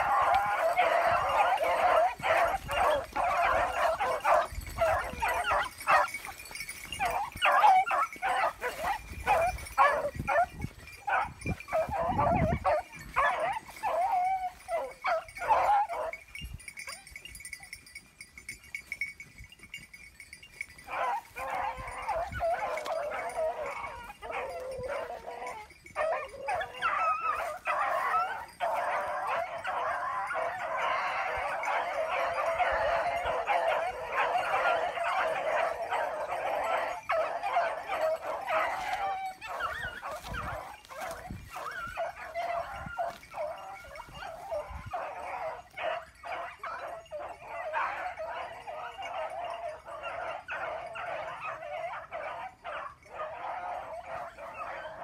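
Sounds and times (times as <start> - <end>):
hounds baying: 0.0 - 55.0.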